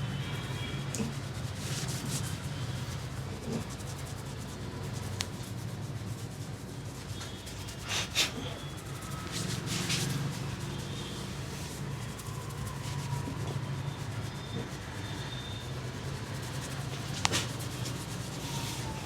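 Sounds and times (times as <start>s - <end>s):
hands rubbing hair and scalp: 0.3s - 19.0s.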